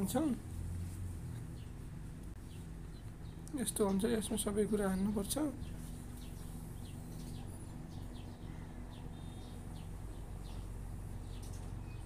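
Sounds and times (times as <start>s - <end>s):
low steady hum: 0.0s - 12.0s
small birds chirping: 1.0s - 12.0s.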